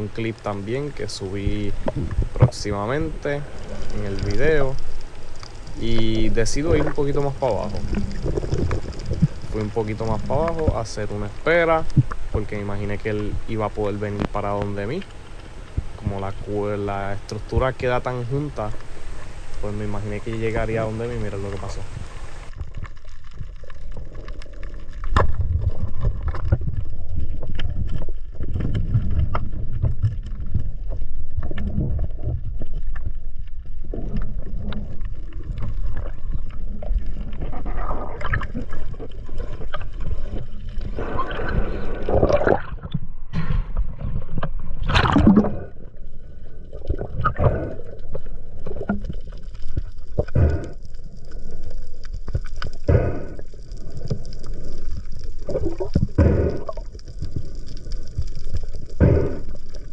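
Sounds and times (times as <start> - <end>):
bubbling and water rush: 0.0 - 59.9
muffled underwater rumble: 0.0 - 59.9.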